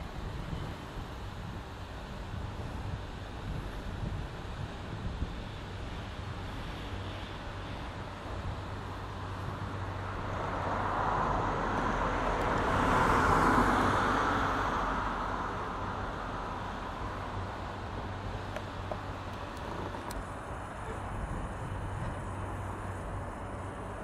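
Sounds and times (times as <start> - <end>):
steady low hum: 0.0 - 12.3, 13.8 - 24.0.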